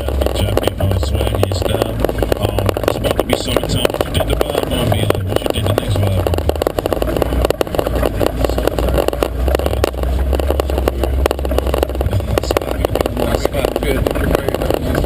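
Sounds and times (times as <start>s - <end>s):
engine rumble: 0.0s - 15.0s
vehicle rattling and knocking: 0.0s - 15.0s.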